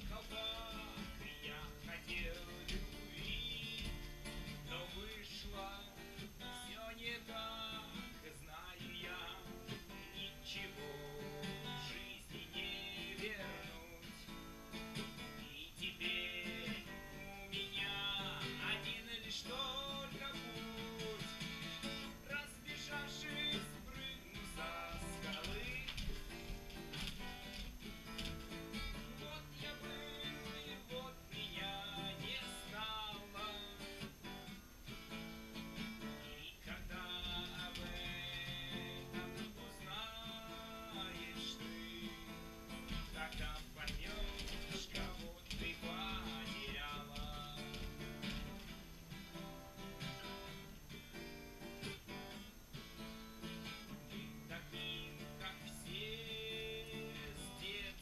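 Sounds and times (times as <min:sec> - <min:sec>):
acoustic guitar strummed: 0:00.0 - 0:58.0.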